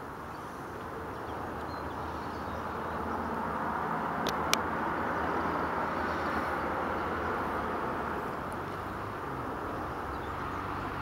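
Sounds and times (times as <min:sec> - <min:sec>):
river flowing over shingle: 0:00.0 - 0:11.0.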